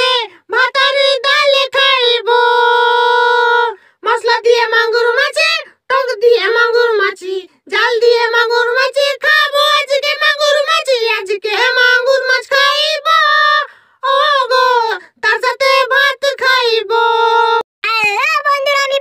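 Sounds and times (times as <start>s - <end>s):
high child-like voice singing: 0.0s - 19.0s.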